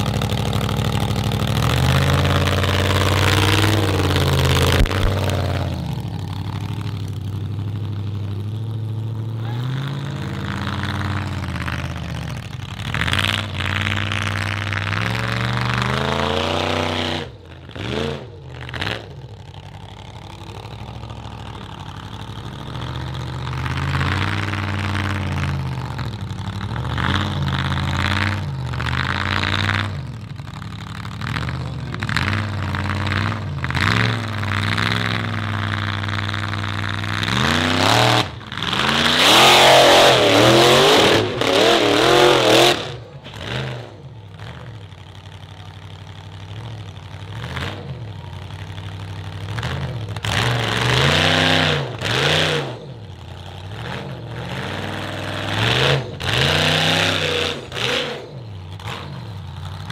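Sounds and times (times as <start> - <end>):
buggy engine revving: 0.0 - 59.9.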